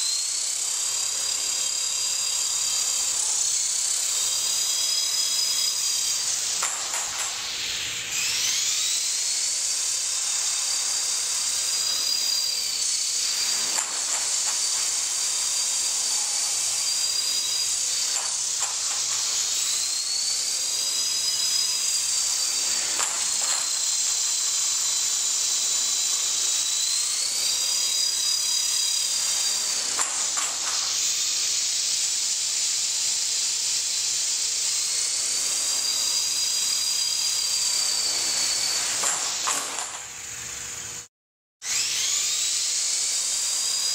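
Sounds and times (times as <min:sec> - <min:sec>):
toy helicopter rotor whine: 0:00.0 - 0:43.9.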